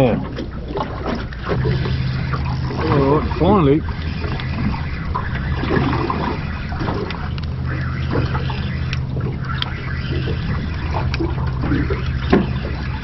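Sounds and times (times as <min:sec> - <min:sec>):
low hum: 0:00.0 - 0:13.0
water slapping against boat hull: 0:00.0 - 0:13.0.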